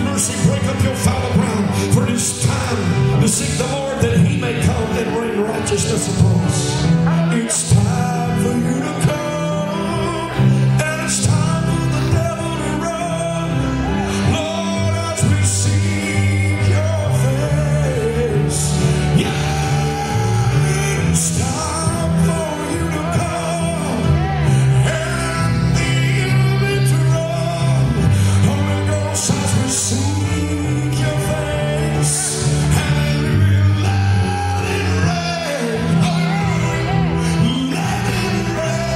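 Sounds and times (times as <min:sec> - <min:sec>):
man singing into a microphone: 0:00.0 - 0:38.9
praise band playing: 0:00.0 - 0:38.9.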